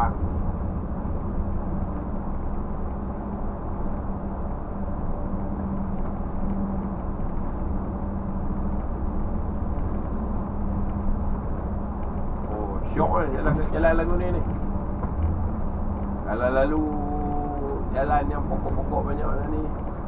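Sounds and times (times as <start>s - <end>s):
bus engine drone: 0.0s - 20.0s
road noise: 0.0s - 20.0s.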